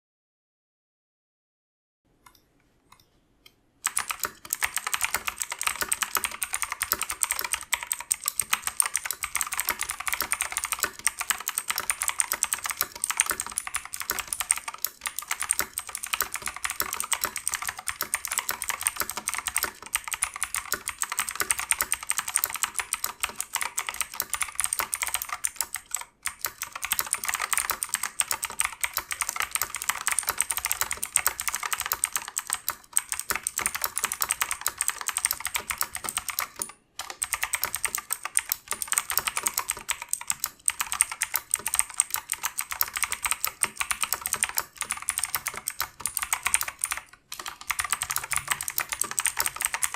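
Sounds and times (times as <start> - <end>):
mechanical keyboard typing: 3.8 - 49.9.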